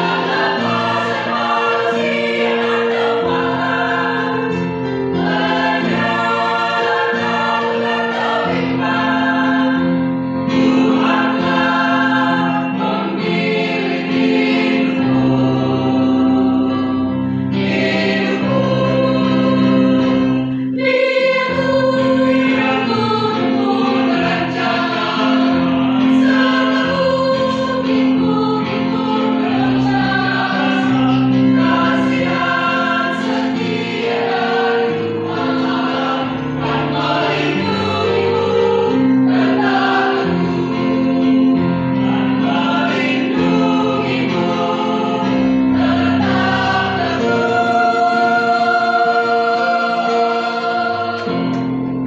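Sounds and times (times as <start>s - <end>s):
choir singing a hymn: 0.0s - 52.0s.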